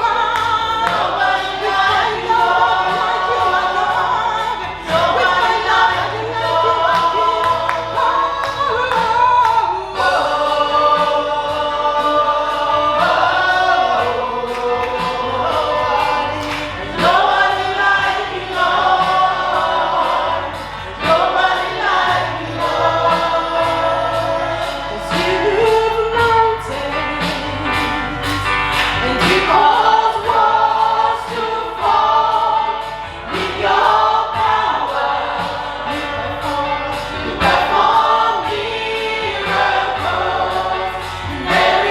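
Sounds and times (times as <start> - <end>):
gospel choir singing: 0.0 - 41.9
instrumental accompaniment with beat: 0.0 - 41.9.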